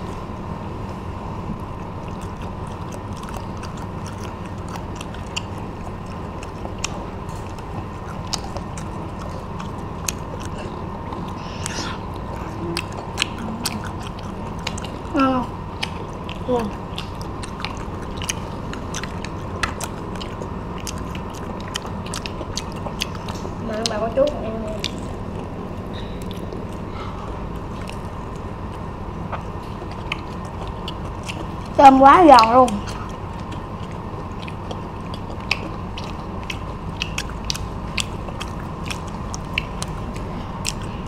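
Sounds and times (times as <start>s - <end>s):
steady background hum: 0.0s - 41.0s
crunching fried shrimp: 1.6s - 41.0s.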